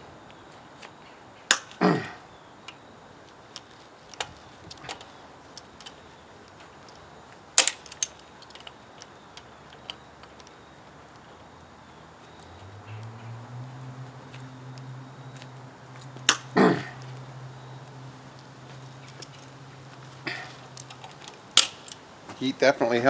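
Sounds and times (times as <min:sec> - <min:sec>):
hand tools clanking on metal: 0:00.8 - 0:02.8, 0:03.5 - 0:11.4, 0:14.1 - 0:23.0.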